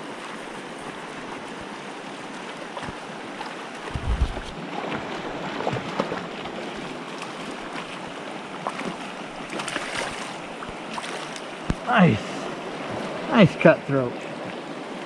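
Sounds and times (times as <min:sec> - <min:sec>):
stream rushing and burbling: 0:00.0 - 0:15.0.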